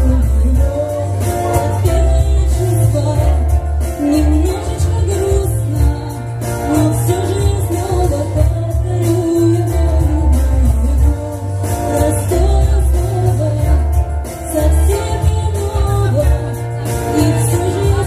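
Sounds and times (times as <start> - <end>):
pop backing track with bass: 0.0 - 18.0
woman singing karaoke: 0.0 - 18.0.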